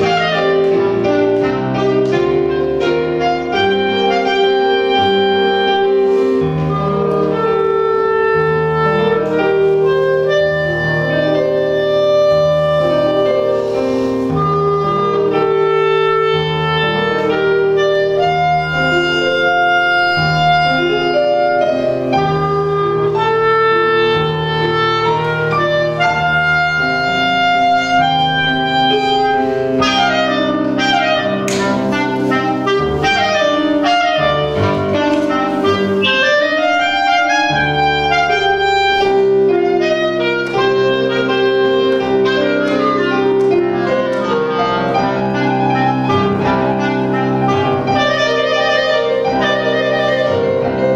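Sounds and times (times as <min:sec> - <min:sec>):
clarinet melody: 0:00.0 - 0:50.9
piano accompaniment: 0:00.0 - 0:50.9.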